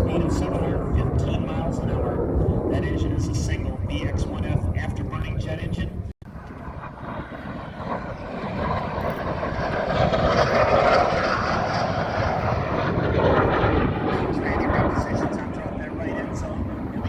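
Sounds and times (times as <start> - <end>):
jet fighter roaring by: 0.0 - 17.0.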